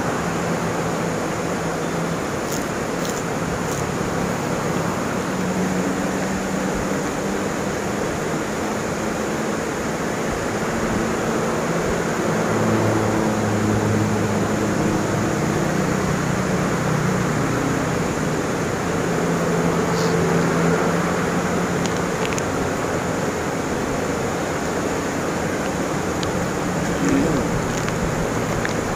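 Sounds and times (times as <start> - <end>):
constant rushing haze: 0.0 - 28.9
vehicles passing on road: 0.0 - 28.9.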